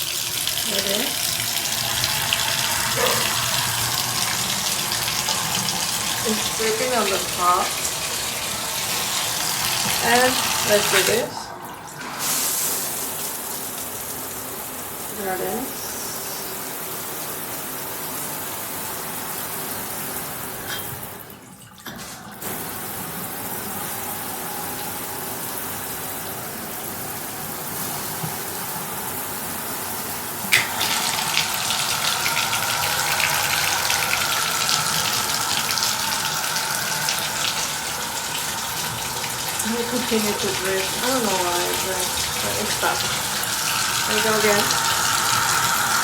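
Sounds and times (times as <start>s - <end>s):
shower water spattering: 0.0s - 21.0s, 21.9s - 46.0s
water running from faucet: 0.0s - 46.0s.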